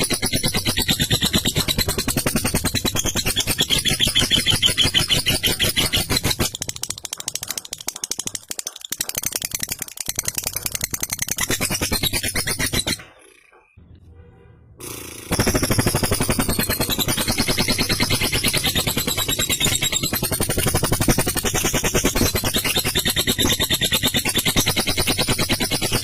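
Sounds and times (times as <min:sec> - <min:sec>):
lovebird rattling chatter call: 0:00.0 - 0:13.6, 0:15.2 - 0:26.0.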